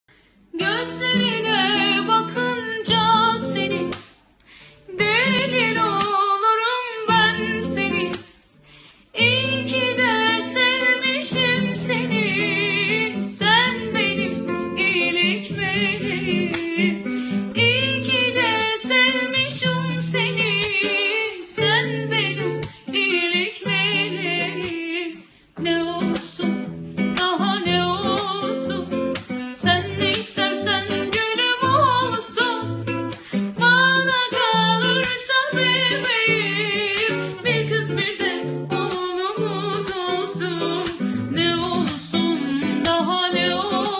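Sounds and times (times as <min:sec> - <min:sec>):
person singing: 0:00.6 - 0:04.0, 0:04.9 - 0:08.3, 0:09.2 - 0:43.9
strummed acoustic guitar: 0:00.6 - 0:08.5, 0:09.2 - 0:43.9.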